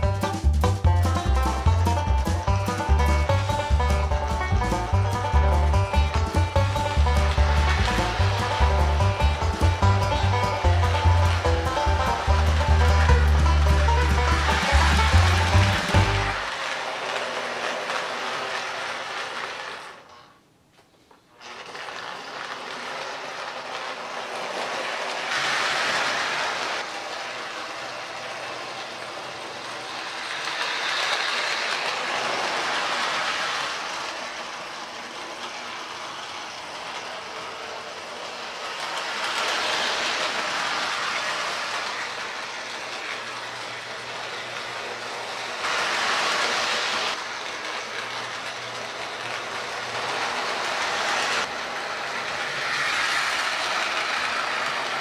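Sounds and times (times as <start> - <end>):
train wheels clicking over track joints: 0.0 - 20.3, 21.4 - 55.0
toy train motor whirring: 0.0 - 20.4, 21.3 - 55.0.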